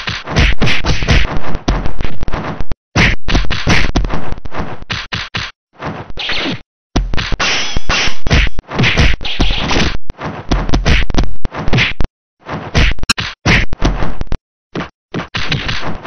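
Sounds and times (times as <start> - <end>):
punch and kick hits: 0.0 - 5.5, 6.5 - 16.0.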